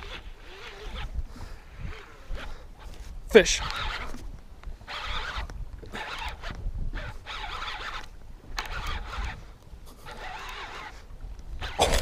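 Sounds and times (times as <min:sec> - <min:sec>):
fishing reel gears whirring: 0:00.0 - 0:12.0.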